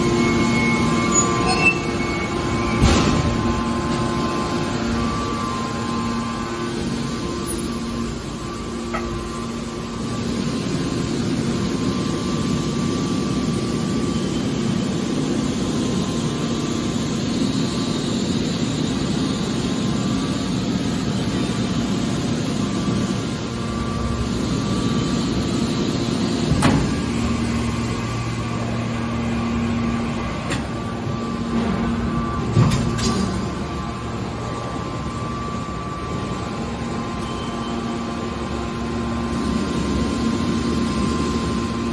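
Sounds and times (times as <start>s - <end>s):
can baler machine hum: 0.0s - 41.9s.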